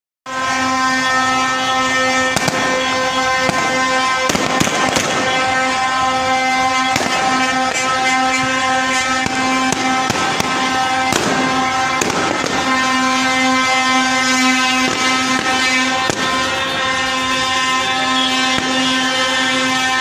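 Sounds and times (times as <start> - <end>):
horn blaring: 0.3 - 20.0
sharp bangs: 0.3 - 20.0.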